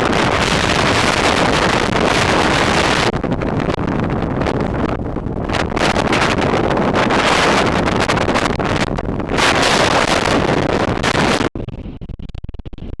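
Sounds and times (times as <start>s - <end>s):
wind buffeting microphone: 0.0s - 12.1s
fluttering wind noise: 0.0s - 13.0s.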